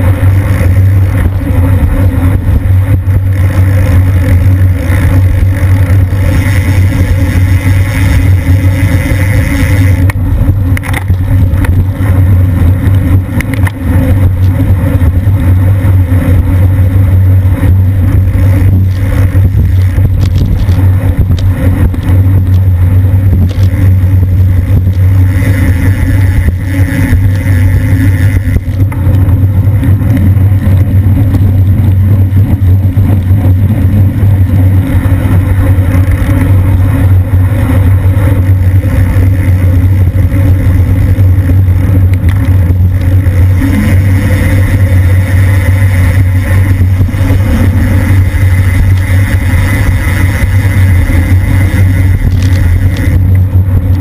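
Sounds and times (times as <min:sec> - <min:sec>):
bicycle freewheel buzzing: 0:00.0 - 0:54.0
wind rumble on microphone: 0:00.0 - 0:54.0.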